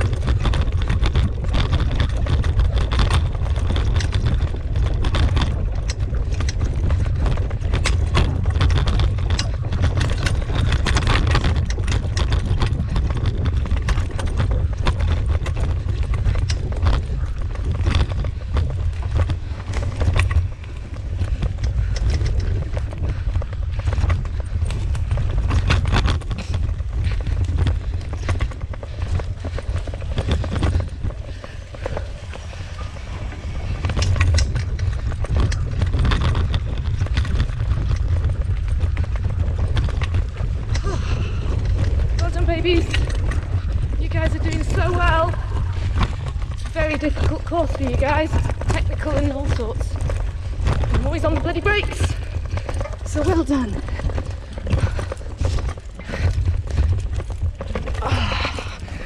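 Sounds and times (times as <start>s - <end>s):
dog footfalls clattering: 0.0s - 59.0s
wind rumble on microphone: 0.0s - 59.0s.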